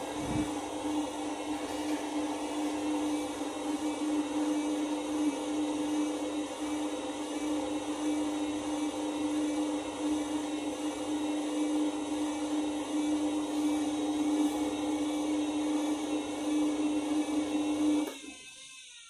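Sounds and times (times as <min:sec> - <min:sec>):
washing machine motor whining: 0:00.0 - 0:19.0.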